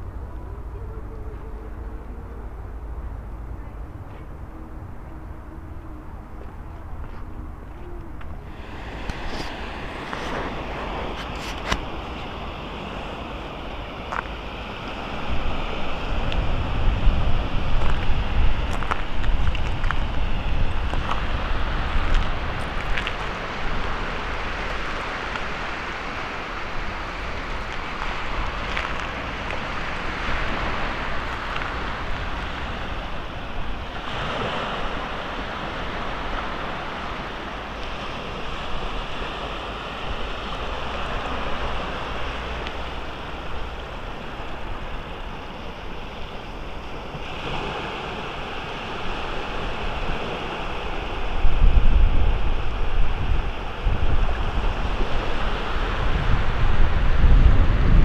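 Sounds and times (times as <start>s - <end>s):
waves washing on sandy shore: 0.0s - 58.0s
wind on microphone: 0.0s - 58.0s.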